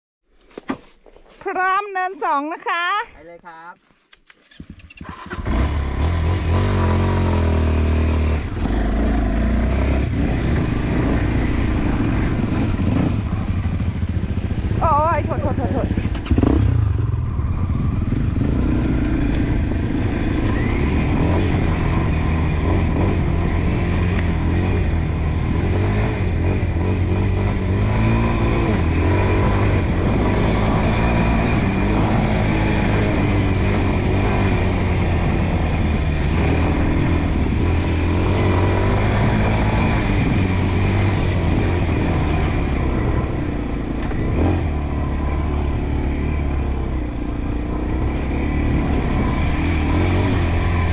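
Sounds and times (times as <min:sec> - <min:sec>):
dirt bike engine revving: 0:04.5 - 0:50.9.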